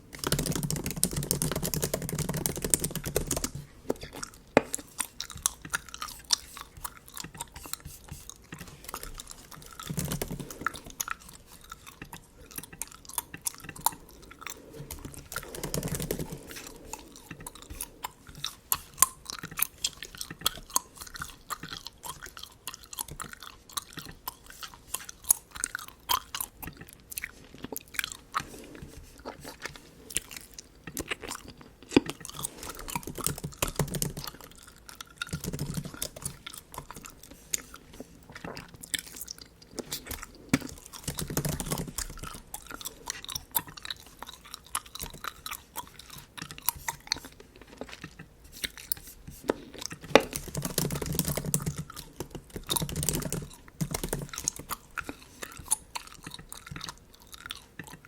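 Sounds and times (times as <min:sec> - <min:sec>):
gum chewing smacks: 0:00.0 - 0:58.0.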